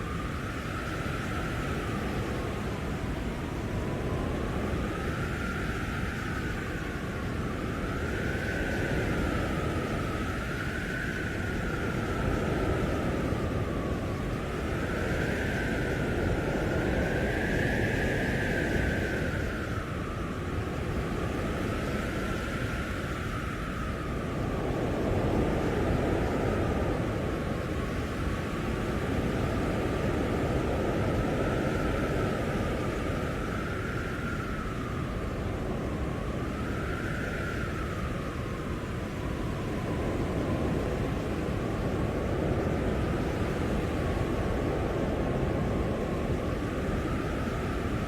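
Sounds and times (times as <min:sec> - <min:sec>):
blizzard wind rushing: 0:00.0 - 0:48.0
howling wind whistle: 0:00.0 - 0:48.0.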